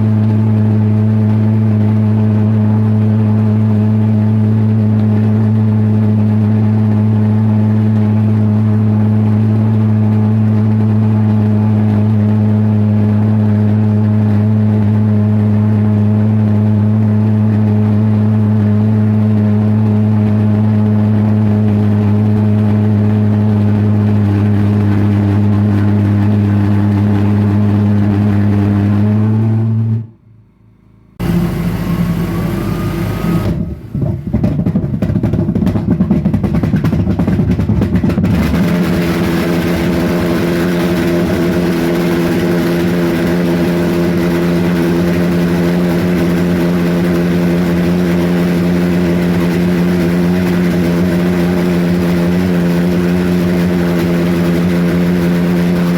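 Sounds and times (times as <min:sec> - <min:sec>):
pulsejet engine buzzing drone: 0:00.0 - 0:55.9.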